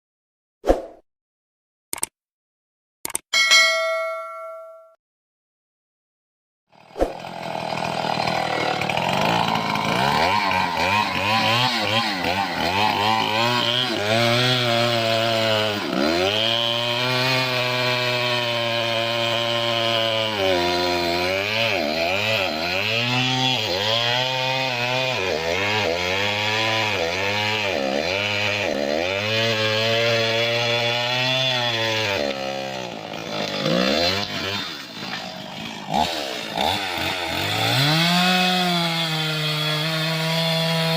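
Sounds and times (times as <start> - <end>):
chainsaw cutting wood: 6.7 - 40.9.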